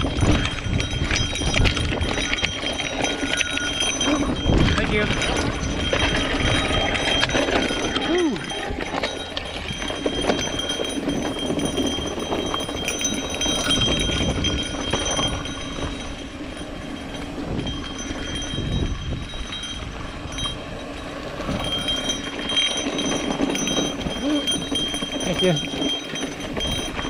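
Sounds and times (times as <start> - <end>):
bike rattling over bumps: 0.0 - 27.0
wind on microphone: 0.0 - 27.0.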